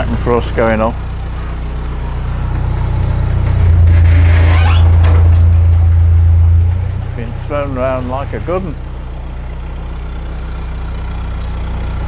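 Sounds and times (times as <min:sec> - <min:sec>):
diesel boat engine revving: 0:00.0 - 0:12.0.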